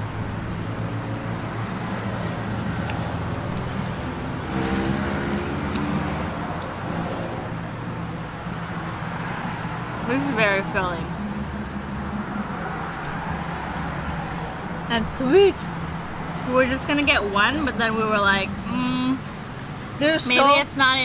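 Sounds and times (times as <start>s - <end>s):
traffic engine hum: 0.0s - 21.0s
vehicle passing: 0.0s - 21.0s.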